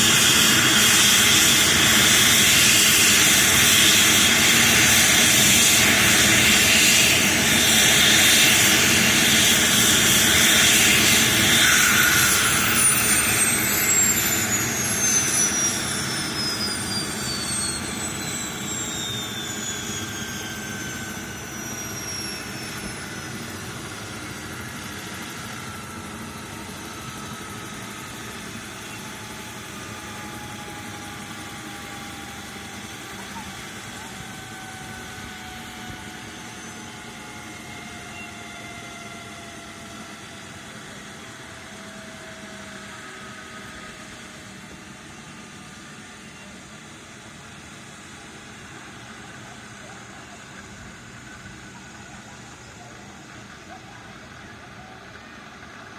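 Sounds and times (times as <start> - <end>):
helicopter turbines and rotor: 0.0 - 55.9
turbine whine spooling down: 0.0 - 55.9.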